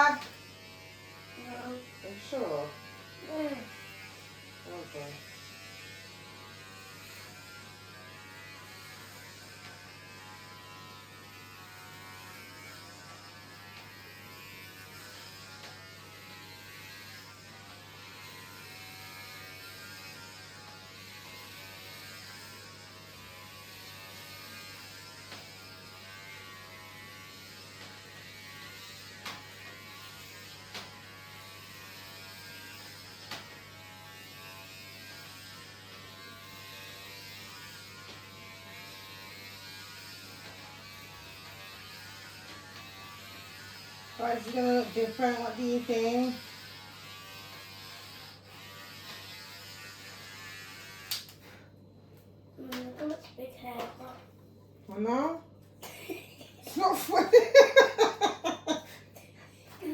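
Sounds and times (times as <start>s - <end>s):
electric hair clippers buzzing: 0.0s - 59.9s.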